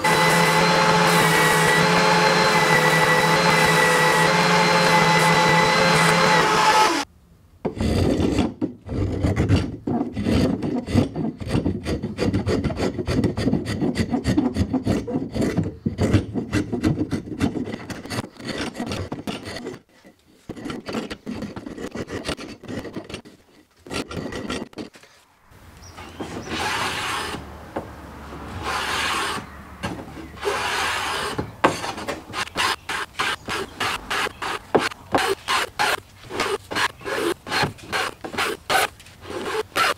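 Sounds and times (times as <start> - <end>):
hand plane shaving wood: 0.0 - 7.1, 7.7 - 25.2, 26.0 - 27.6, 28.2 - 39.9.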